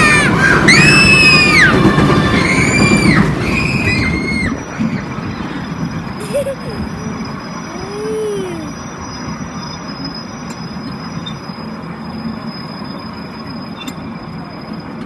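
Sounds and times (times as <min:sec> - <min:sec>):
miniature train wheels rumbling on rails: 0:00.0 - 0:15.0.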